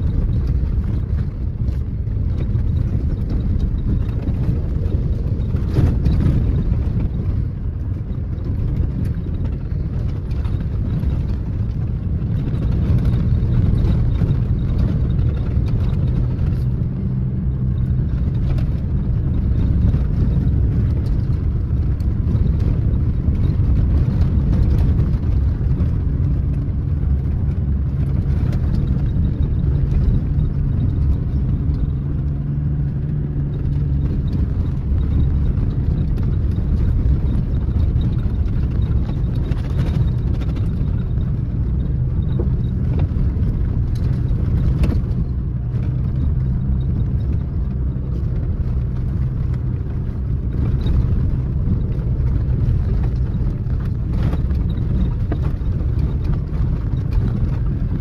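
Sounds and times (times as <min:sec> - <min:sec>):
engine and tyres on gravel: 0:00.0 - 0:58.0.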